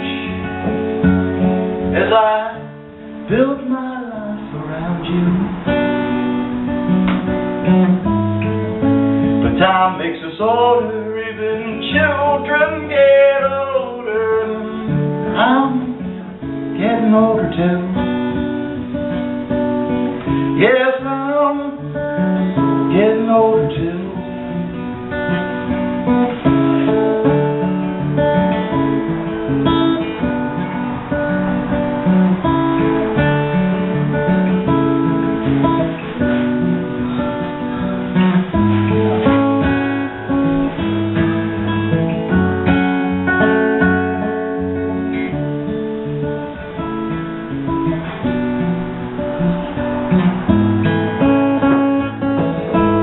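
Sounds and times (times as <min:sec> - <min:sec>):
acoustic guitar playing: 0:00.0 - 0:53.0.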